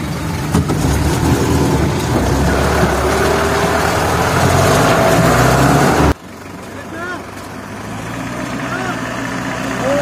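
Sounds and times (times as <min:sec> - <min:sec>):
vehicle rattling on rough track: 0:00.0 - 0:10.0.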